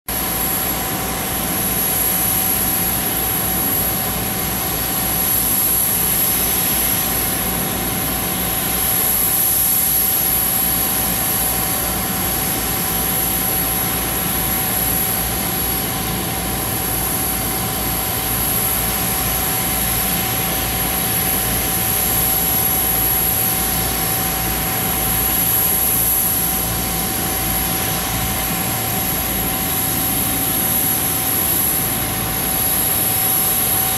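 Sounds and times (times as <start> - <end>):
jet turbine idling: 0.1 - 33.9.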